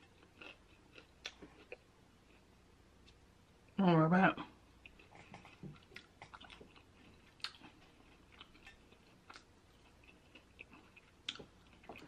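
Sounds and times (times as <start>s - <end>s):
person chewing: 0.0s - 3.2s, 4.8s - 12.0s.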